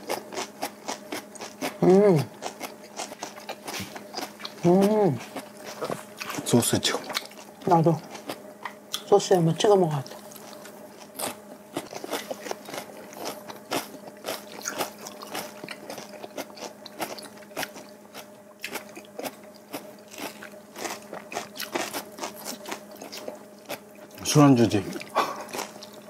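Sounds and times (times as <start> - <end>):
crunching and chewing: 0.0 - 9.1, 10.0 - 26.0.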